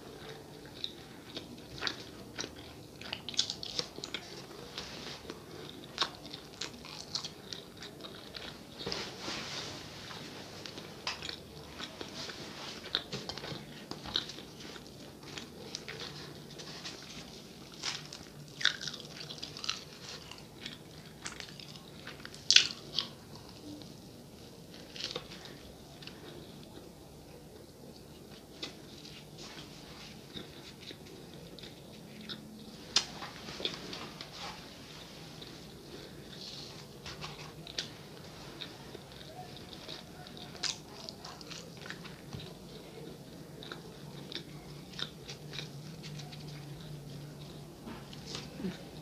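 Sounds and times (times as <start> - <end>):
chewing and mouth sounds: 0.1 - 9.0, 10.1 - 49.0.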